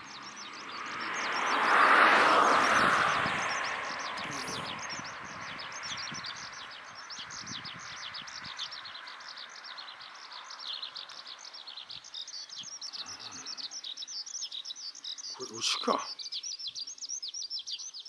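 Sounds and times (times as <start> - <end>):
skylark singing: 0.0 - 18.0.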